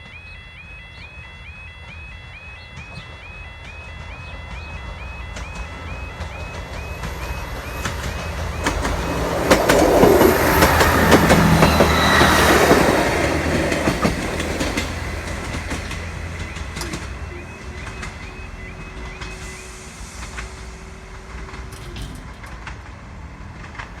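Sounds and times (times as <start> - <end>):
warbling crossing alarm tones: 0.0 - 23.2
train passing: 0.0 - 24.0
wheels clicking over rail joints: 2.8 - 19.6, 20.2 - 24.0.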